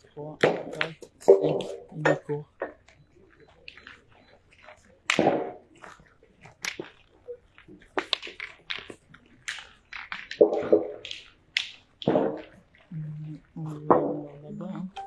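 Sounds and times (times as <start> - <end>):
footsteps crunching on gravel: 0.6 - 15.0.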